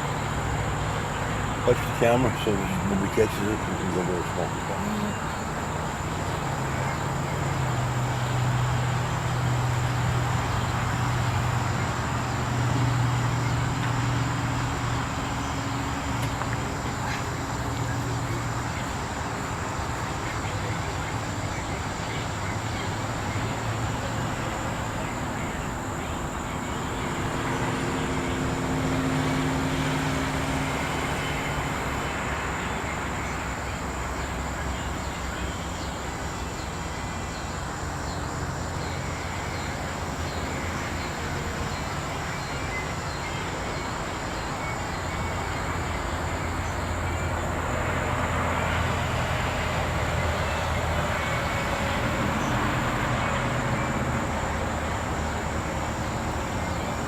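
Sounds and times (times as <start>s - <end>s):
high-pitched insect chorus: 0.0s - 57.0s
low engine-like hum: 0.0s - 57.0s.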